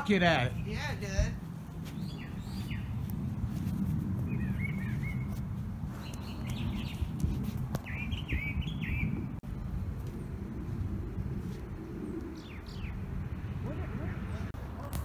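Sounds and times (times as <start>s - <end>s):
birds chirping: 0.0s - 14.6s
steady low rumble: 0.0s - 15.0s.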